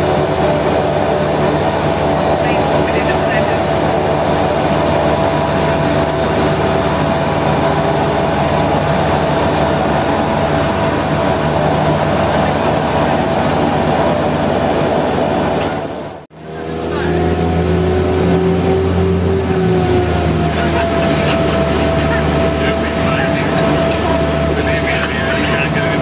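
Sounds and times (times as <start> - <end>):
turboprop engines humming in cabin: 0.0 - 26.0.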